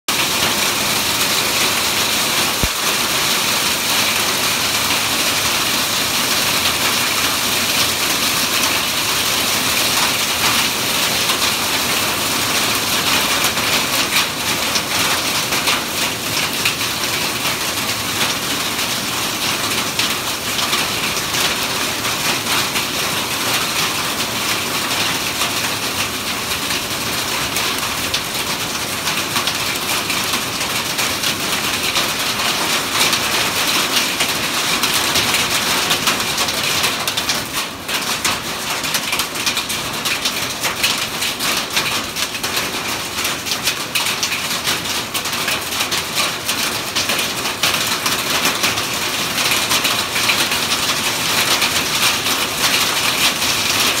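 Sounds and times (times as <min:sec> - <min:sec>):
hail pattering: 0:00.2 - 0:54.0.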